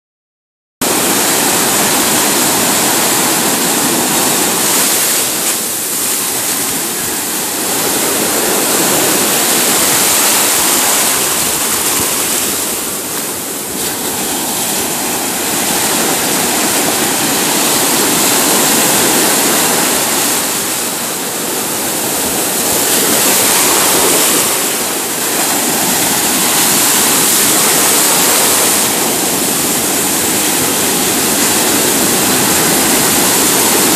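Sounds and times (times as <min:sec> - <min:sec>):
ocean surf breaking: 0:00.8 - 0:33.9.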